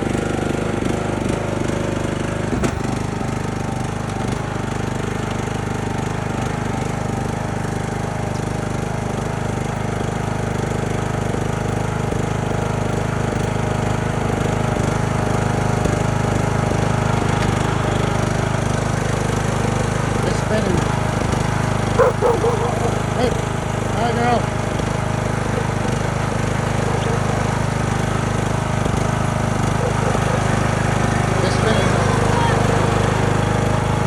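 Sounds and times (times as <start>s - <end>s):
garden tractor engine running: 0.0s - 34.0s.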